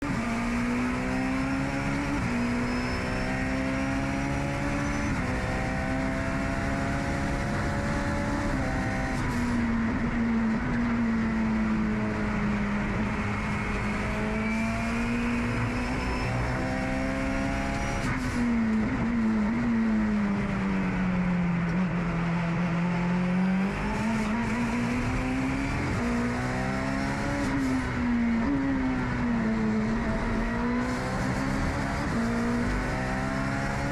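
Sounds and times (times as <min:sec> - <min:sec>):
race car engine revving: 0:00.0 - 0:20.6, 0:21.6 - 0:33.9.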